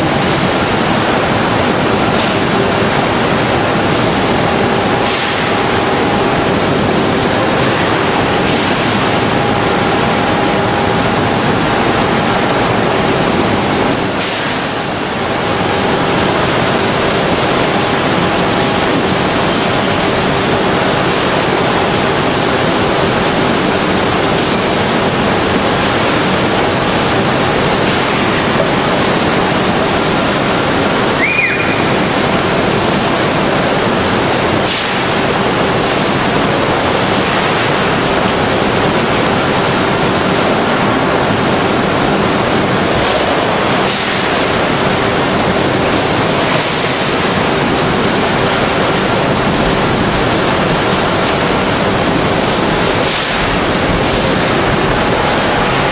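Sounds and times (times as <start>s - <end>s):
constant low hum: 0.0s - 55.9s.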